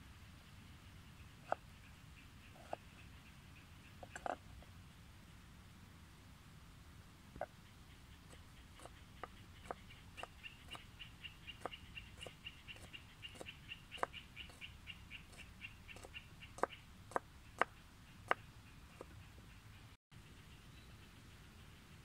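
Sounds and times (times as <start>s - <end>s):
bird chirping: 0.1s - 4.6s, 7.4s - 22.0s.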